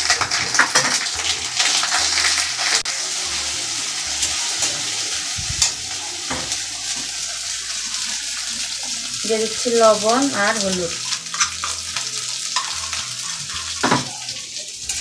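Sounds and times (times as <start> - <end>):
paste sizzling in oil: 0.0 - 15.0.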